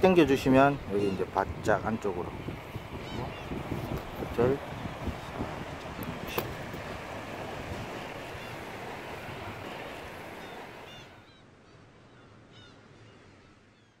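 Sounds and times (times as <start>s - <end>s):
wind and surf rushing: 0.0s - 11.2s.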